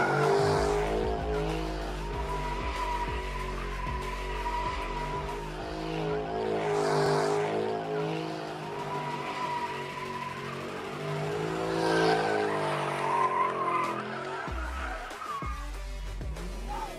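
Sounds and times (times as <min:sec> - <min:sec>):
tyres squealing: 0:00.0 - 0:15.6
car engine revving: 0:00.0 - 0:16.9.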